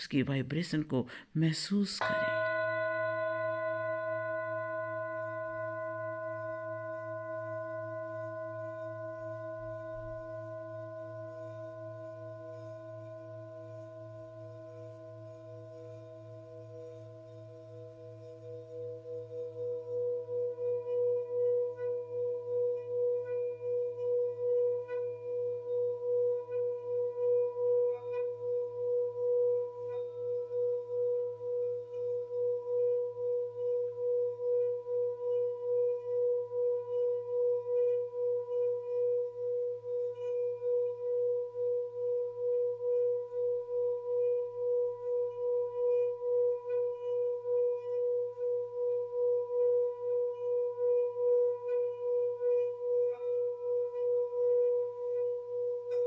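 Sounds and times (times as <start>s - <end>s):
singing bowl wavering tone: 2.0s - 56.0s.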